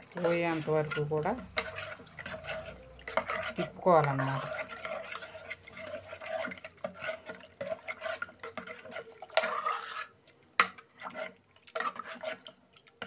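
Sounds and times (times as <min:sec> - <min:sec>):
spoon scraping metal pot: 0:00.0 - 0:12.6.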